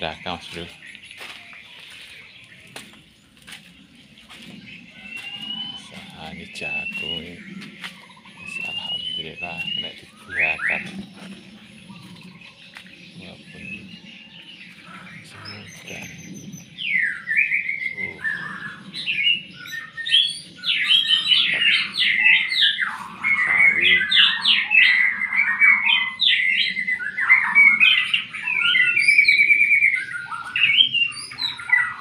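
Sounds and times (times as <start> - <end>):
birds chirping and singing: 0.0 - 32.0.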